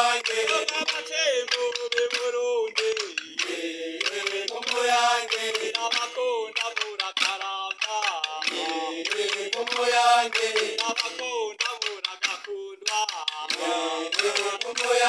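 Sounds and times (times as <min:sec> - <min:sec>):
people chanting: 0:00.0 - 0:15.0
sharp clicks: 0:00.0 - 0:15.0.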